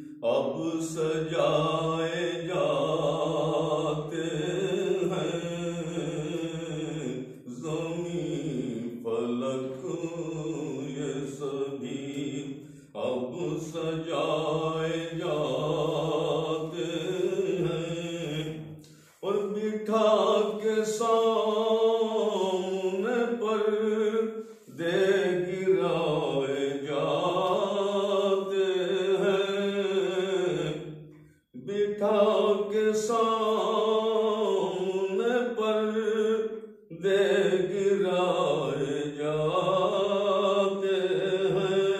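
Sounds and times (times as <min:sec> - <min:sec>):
man chanting devotional poem: 0:00.0 - 0:30.9, 0:31.6 - 0:41.9.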